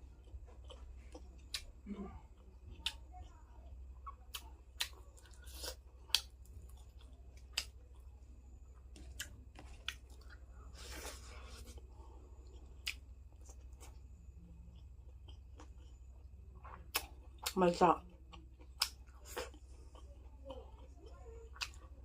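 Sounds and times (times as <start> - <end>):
crunchy chewing: 0.0 - 22.0
steady low hum: 0.0 - 22.0.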